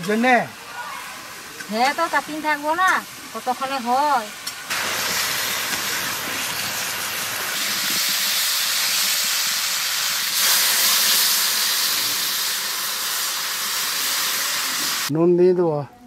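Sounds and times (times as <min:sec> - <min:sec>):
vegetables sizzling in oil: 0:00.0 - 0:15.1
water hissing in hot pan: 0:00.0 - 0:15.1.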